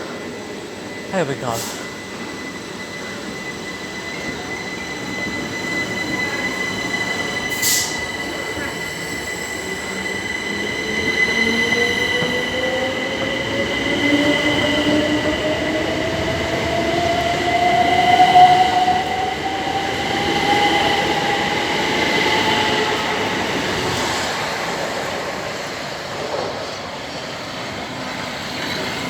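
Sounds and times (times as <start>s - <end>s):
steady high-pitched squeal: 0.0s - 29.0s.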